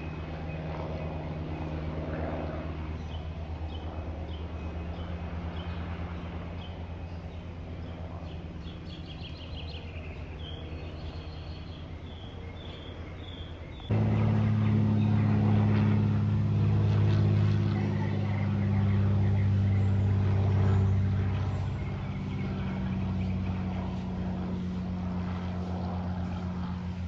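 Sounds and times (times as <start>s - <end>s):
propeller aircraft drone: 0.0s - 27.0s.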